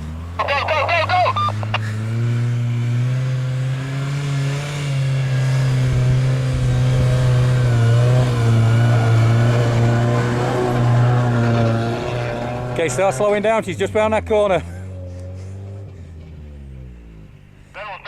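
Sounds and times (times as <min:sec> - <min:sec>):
car engine under load: 0:00.0 - 0:18.0.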